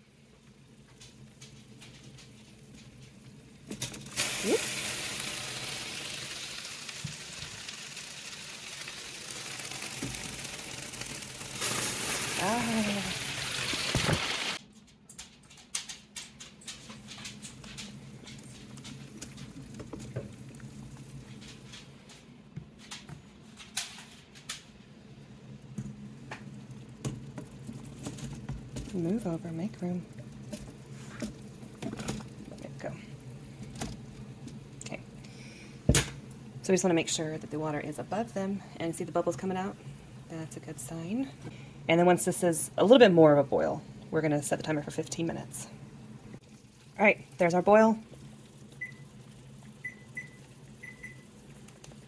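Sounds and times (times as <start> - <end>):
water boiling in a pot: 0.0 - 14.6, 16.9 - 52.0.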